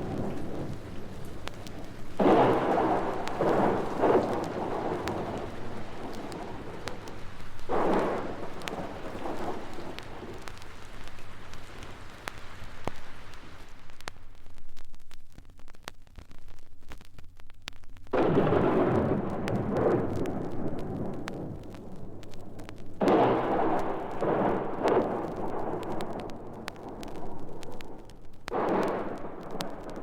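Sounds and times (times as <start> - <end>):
thunder rolling: 0.0 - 12.4, 18.1 - 30.0
thunder clap: 0.0 - 14.1, 18.1 - 30.0
rain: 0.0 - 30.0.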